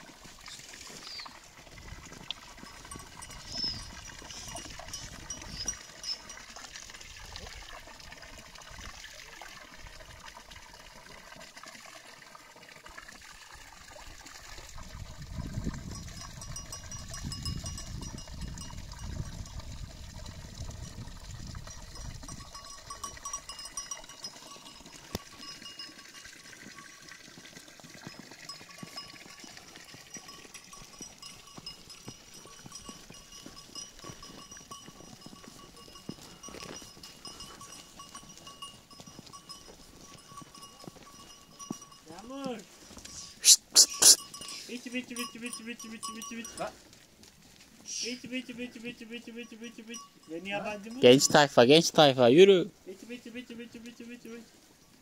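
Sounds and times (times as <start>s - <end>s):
water trickling into trough: 0.0s - 46.7s
livestock bells clinking: 0.9s - 8.5s, 15.4s - 47.0s, 47.8s - 54.5s.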